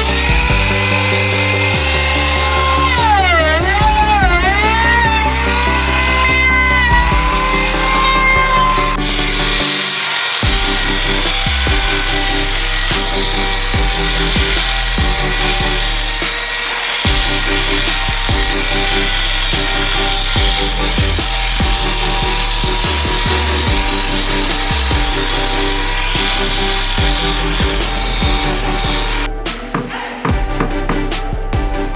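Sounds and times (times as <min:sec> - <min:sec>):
wood worked with hand tools: 0:00.0 - 0:31.8
background music with steady beat: 0:00.0 - 0:31.9.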